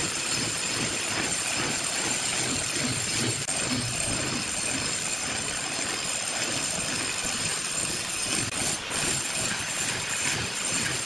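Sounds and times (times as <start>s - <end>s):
angle grinder grinding concrete: 0.0s - 11.0s.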